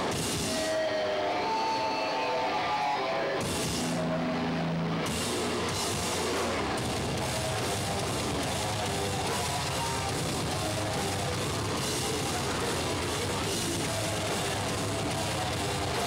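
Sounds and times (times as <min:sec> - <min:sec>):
punk band playing live: 0:00.0 - 0:16.0.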